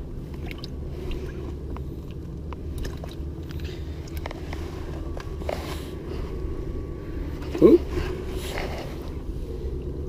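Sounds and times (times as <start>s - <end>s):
wind rumble: 0.0s - 10.0s.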